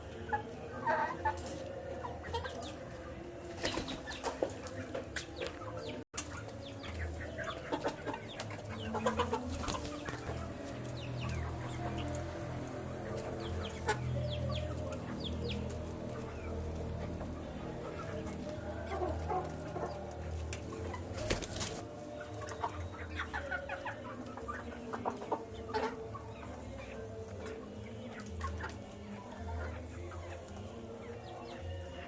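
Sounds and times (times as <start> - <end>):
chicks peeping: 0.0 - 32.0
clucking: 0.1 - 32.0.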